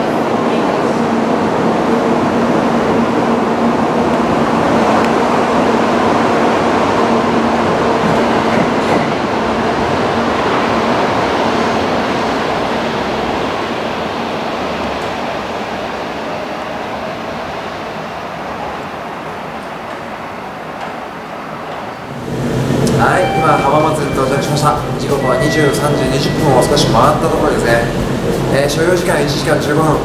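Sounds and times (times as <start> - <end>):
high-speed train running rumble: 0.0 - 30.0.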